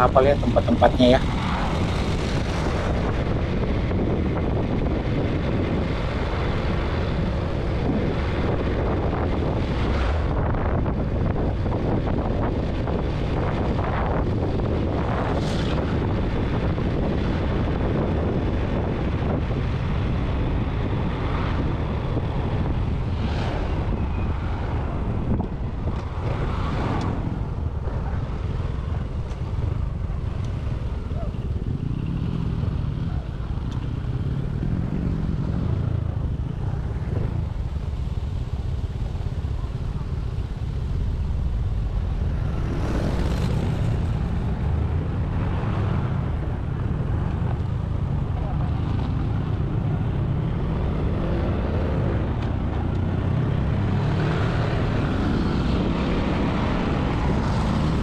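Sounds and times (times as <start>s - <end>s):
vehicle engine and road noise: 0.0s - 58.0s
wind buffeting microphone: 0.0s - 58.0s.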